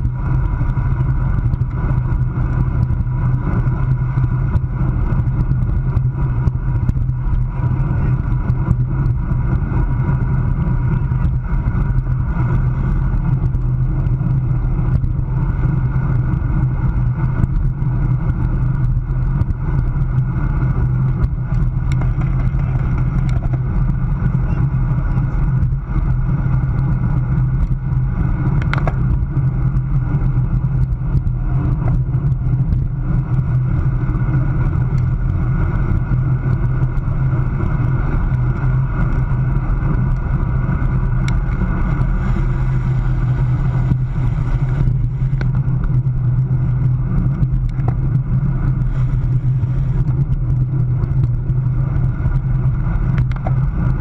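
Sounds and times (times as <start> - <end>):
bicycle tyre road noise: 0.0 - 54.0
wind rushing over microphone: 0.0 - 54.0.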